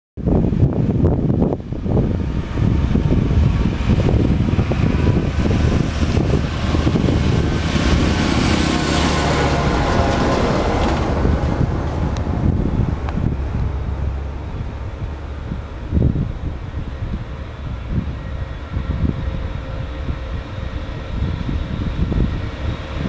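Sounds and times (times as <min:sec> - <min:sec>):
wind buffeting microphone: 0:00.2 - 0:23.0
tractor engine passing: 0:01.3 - 0:23.0.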